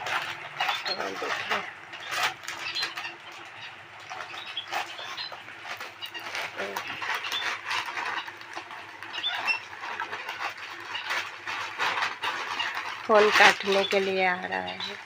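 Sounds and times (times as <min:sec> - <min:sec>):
parrots chirping and chattering: 0:00.0 - 0:15.0.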